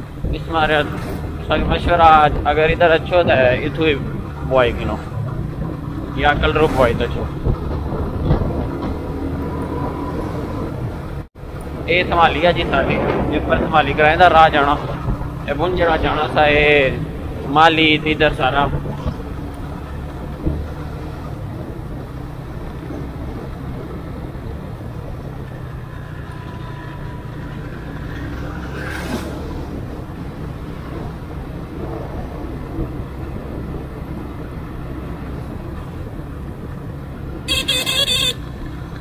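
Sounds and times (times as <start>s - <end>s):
road and wind noise: 0.0s - 39.0s.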